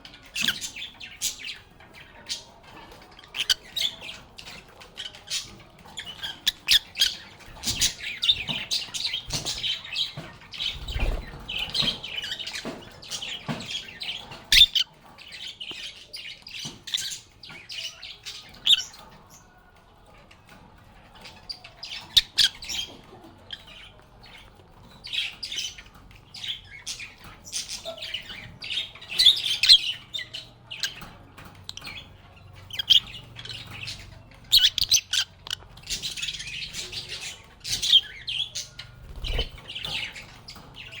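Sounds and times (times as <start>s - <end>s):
lovebirds chirping and squawking: 0.0s - 41.0s.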